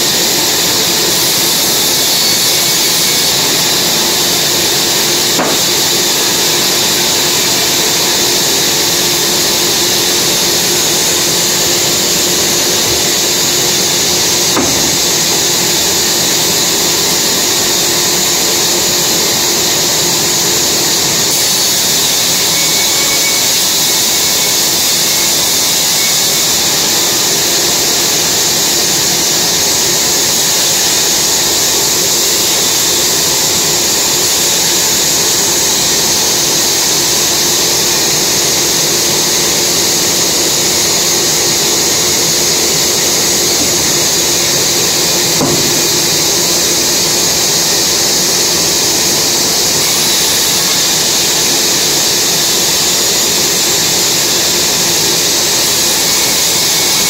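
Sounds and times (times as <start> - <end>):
band saw cutting timber: 0.0 - 57.0.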